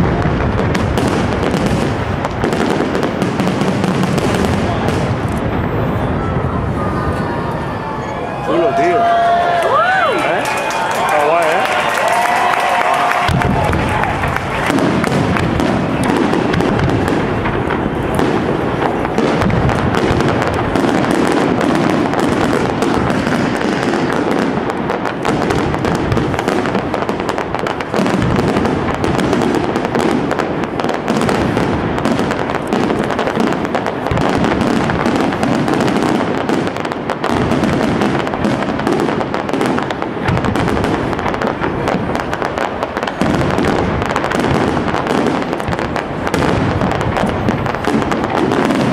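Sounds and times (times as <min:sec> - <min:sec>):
fireworks shells bursting and crackling: 0:00.0 - 0:48.9.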